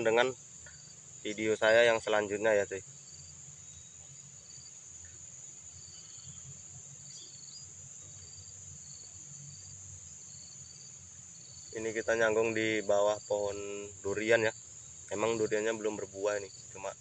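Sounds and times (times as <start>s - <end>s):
insect chorus: 0.0s - 17.0s
short insect chirps: 0.0s - 17.0s.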